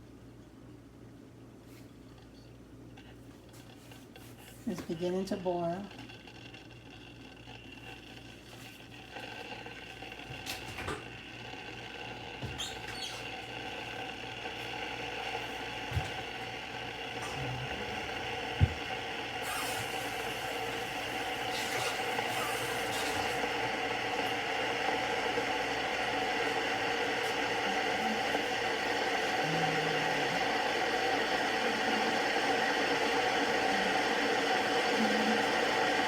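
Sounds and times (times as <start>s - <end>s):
kettle boiling water: 3.0s - 36.0s.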